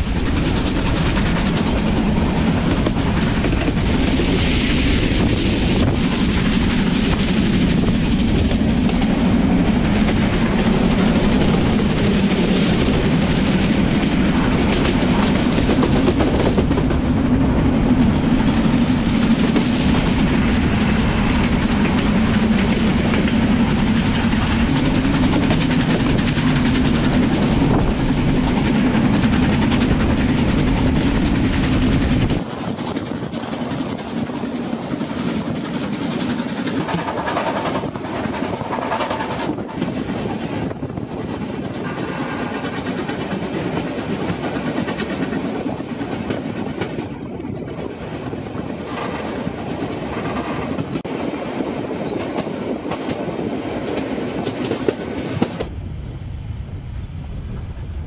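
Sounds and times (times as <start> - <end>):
steam train wheels clattering: 0.0 - 55.8.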